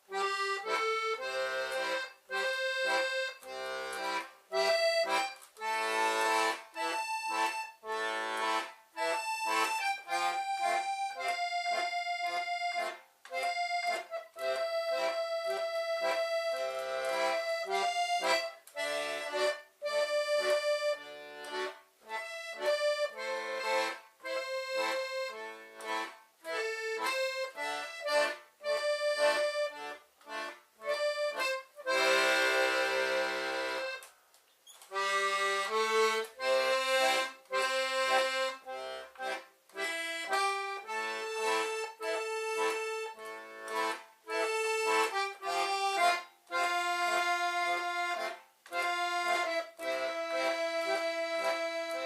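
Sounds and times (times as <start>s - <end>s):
concertina melody: 0.0s - 34.1s, 34.8s - 52.0s.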